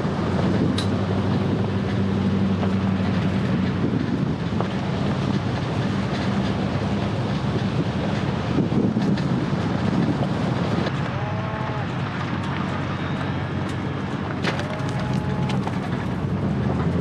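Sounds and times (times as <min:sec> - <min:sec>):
vehicle engine hum: 0:00.0 - 0:17.0
tyre rumble on dirt road: 0:00.2 - 0:17.0.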